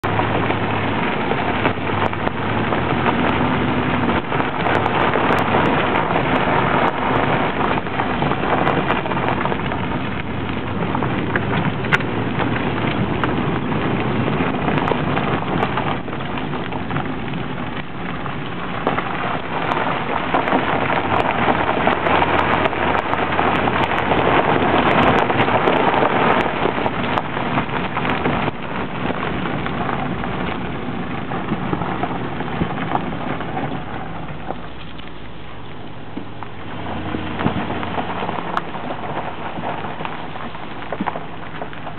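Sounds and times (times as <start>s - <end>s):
low engine hum: 0.0s - 41.9s
wind and tyre noise: 0.0s - 41.9s.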